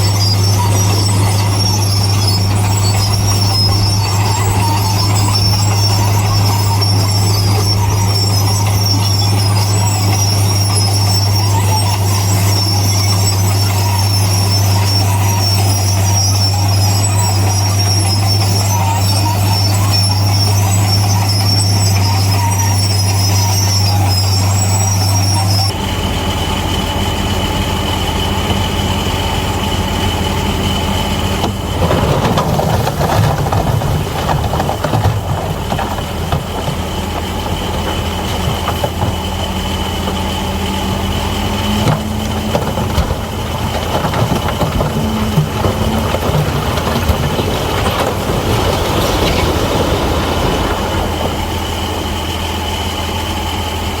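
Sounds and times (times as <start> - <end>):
crawler tracks squealing and clanking: 0.0 - 54.0
diesel engine running: 0.0 - 54.0.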